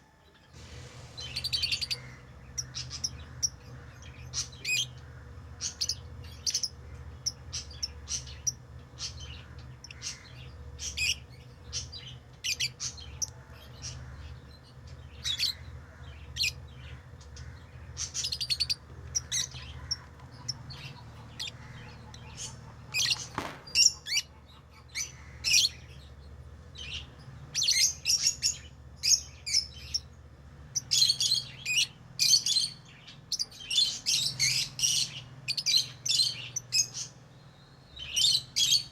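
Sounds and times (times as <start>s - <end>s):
lovebirds chirping: 0.0s - 38.9s
steady low hum: 0.0s - 38.9s.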